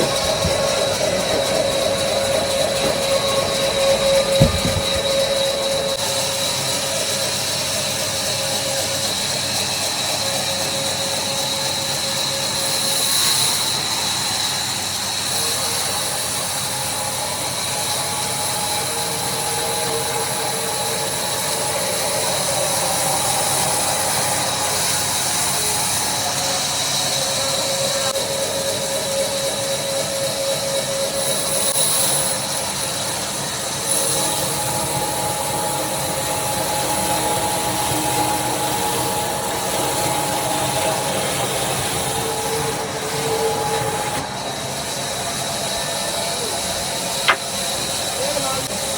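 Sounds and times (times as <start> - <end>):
woodworking machine whining: 0.0 - 48.9.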